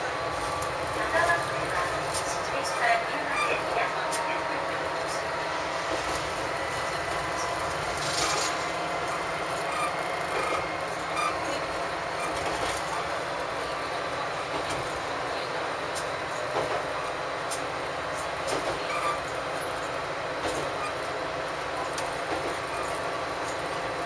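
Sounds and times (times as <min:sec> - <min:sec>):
diesel railcar engine: 0:00.0 - 0:24.0
wheel-on-rail noise: 0:00.0 - 0:24.0.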